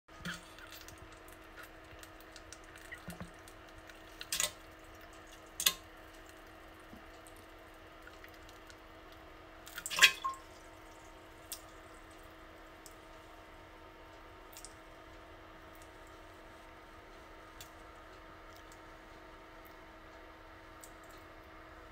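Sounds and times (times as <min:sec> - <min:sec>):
small water drips: 0:00.1 - 0:21.6.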